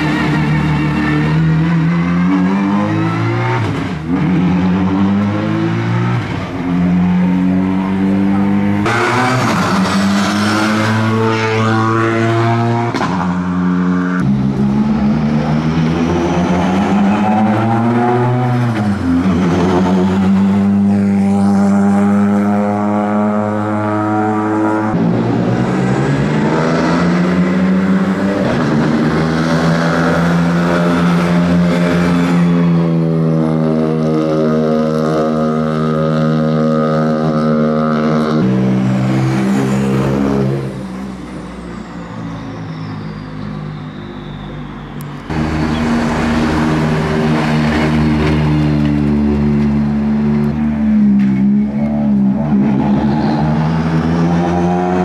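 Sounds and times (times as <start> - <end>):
rally car engines running: 0.0 - 55.0.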